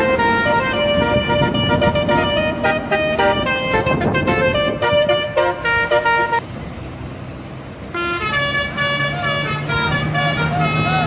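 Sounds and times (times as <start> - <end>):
bus horn playing melody: 0.0 - 6.4, 7.9 - 11.0
engine and road noise: 0.0 - 11.0.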